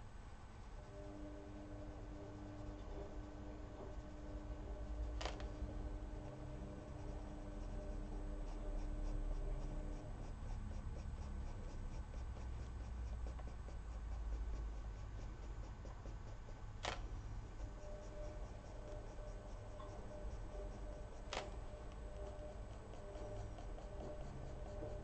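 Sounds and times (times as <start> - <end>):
steady low hum: 0.0 - 25.0
coloured pencil scratching on paper: 0.6 - 25.0.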